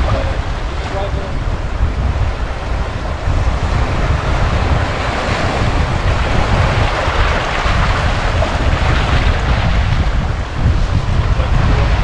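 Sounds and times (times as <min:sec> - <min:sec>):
sea surf washing onto shore: 0:00.0 - 0:12.0
wind buffeting the microphone: 0:00.0 - 0:12.0.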